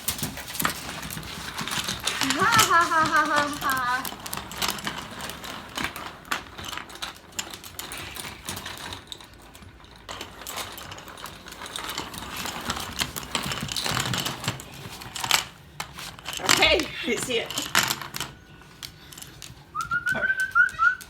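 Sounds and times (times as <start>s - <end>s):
chain links clinking and rattling: 0.0s - 20.7s.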